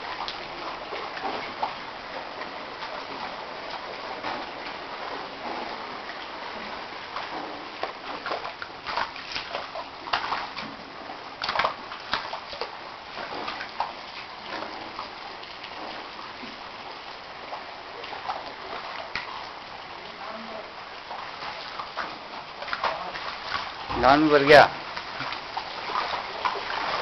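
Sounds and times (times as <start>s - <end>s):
floodwater rushing with splashes: 0.0s - 27.0s.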